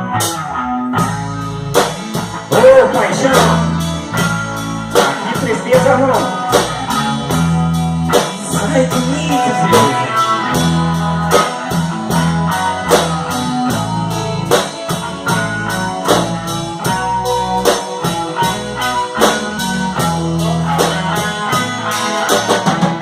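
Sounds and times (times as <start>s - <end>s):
drums keeping a steady beat: 0.0s - 23.0s
guitar: 0.0s - 23.0s
sustained bass: 0.0s - 23.0s.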